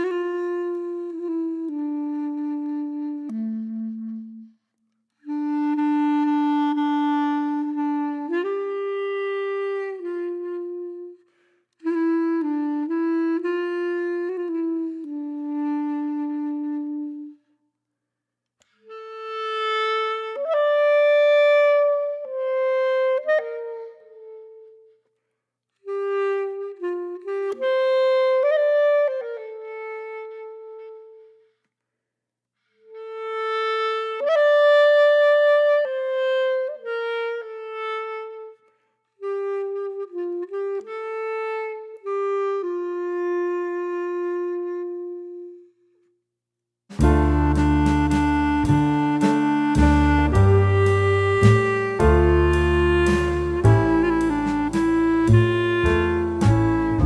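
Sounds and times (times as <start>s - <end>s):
solo woodwind melody: 0.0s - 17.7s, 18.6s - 31.7s, 32.6s - 46.2s, 46.9s - 57.0s.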